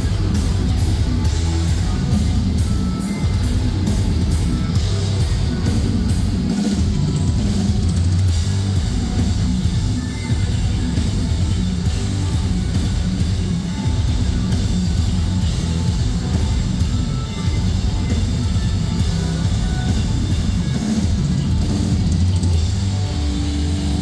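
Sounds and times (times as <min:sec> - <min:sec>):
live metal band playing: 0:00.0 - 0:24.0.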